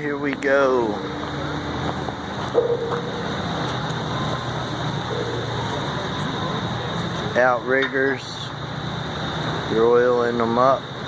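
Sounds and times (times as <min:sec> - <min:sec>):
heavy machine engine idling: 0:00.0 - 0:11.0.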